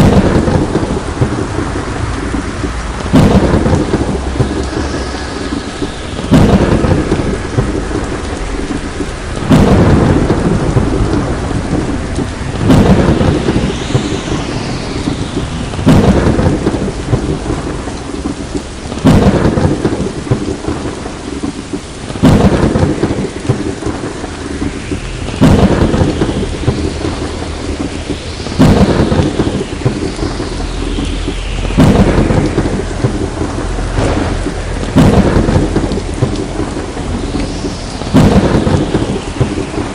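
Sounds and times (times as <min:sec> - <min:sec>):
heavy rain: 0:00.0 - 0:39.9
thunderclaps: 0:00.0 - 0:39.9.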